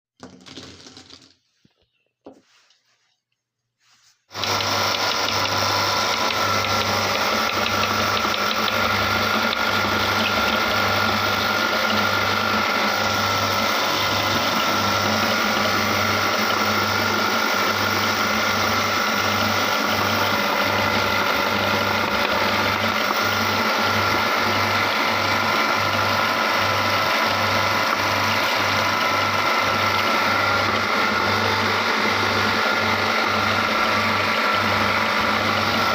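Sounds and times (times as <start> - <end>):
electric meat grinder motor humming: 4.3 - 35.9.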